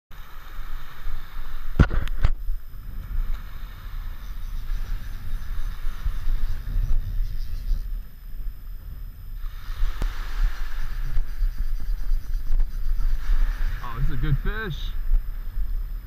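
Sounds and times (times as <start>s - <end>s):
wind rumbling on microphone: 0.1s - 16.0s.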